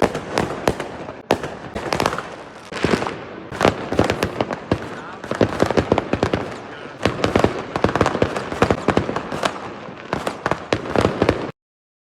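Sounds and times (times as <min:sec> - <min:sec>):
fireworks cracking and banging: 0:00.0 - 0:11.6.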